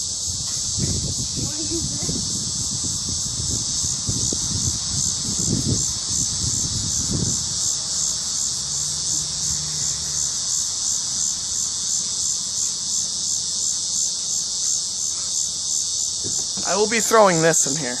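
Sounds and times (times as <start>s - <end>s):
pulsing insect chorus: 0.0s - 18.0s.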